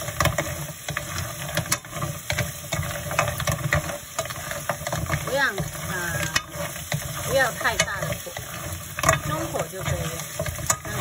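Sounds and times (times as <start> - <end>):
clam shells clattering in a pan: 0.0 - 11.0.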